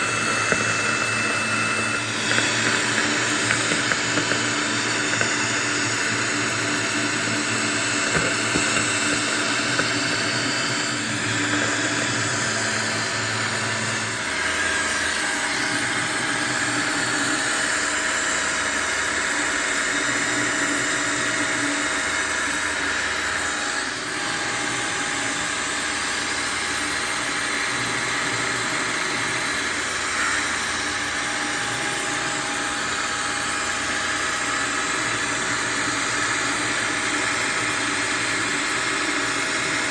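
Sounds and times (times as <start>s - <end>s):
milling machine cutting plywood: 0.0s - 39.9s.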